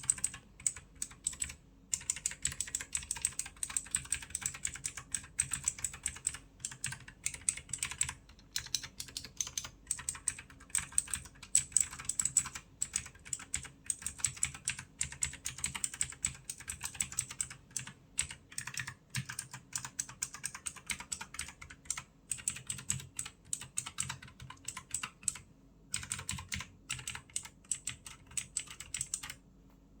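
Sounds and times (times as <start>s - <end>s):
mechanical keyboard typing: 0.0s - 29.4s.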